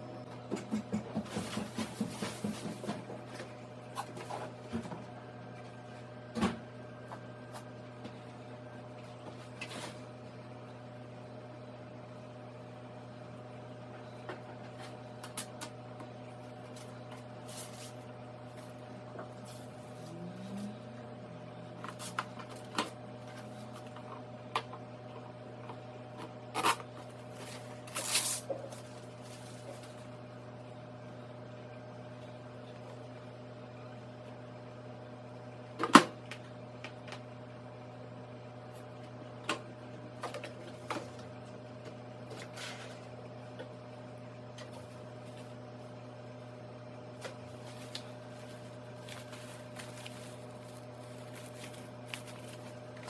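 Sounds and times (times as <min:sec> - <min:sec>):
microwave oven humming: 0:00.0 - 0:53.0.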